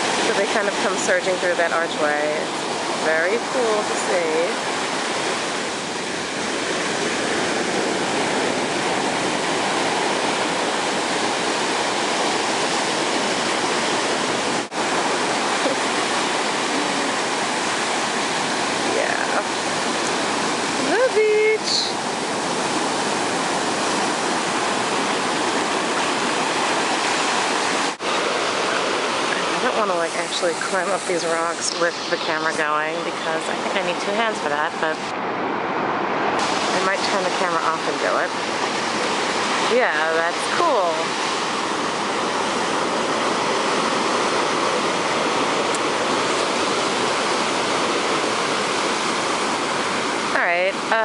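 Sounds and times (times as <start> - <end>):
surf rushing among rocks: 0.0 - 51.0.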